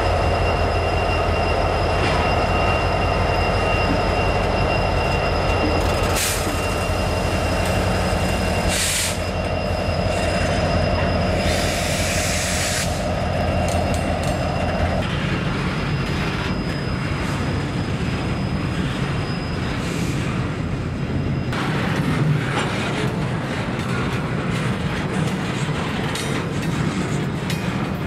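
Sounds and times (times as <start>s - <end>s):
wheels squealing: 0.0s - 27.3s
freight train rumbling past: 0.0s - 28.0s.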